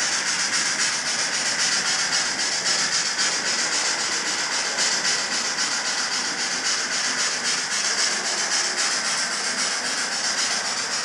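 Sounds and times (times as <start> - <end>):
rapid steam chuff: 0.0 - 11.0
steady steam hiss: 0.0 - 11.0.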